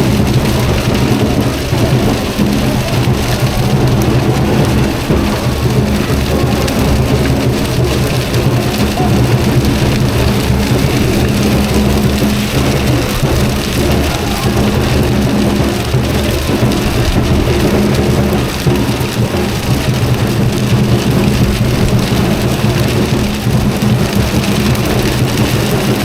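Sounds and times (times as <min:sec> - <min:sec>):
bonfire flames roaring: 0:00.0 - 0:26.0
fire crackling: 0:00.0 - 0:26.0.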